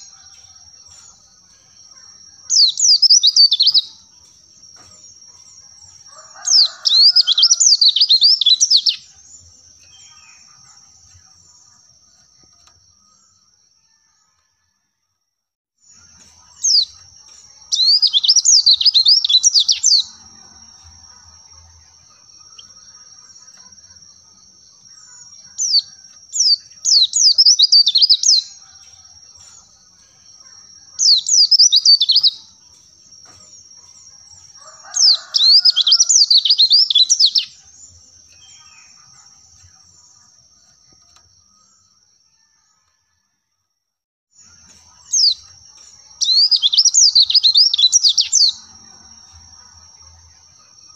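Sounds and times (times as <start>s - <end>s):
bird twittering chirps: 0.0s - 4.1s, 4.8s - 13.1s, 15.9s - 20.4s, 22.0s - 41.9s, 44.4s - 50.7s.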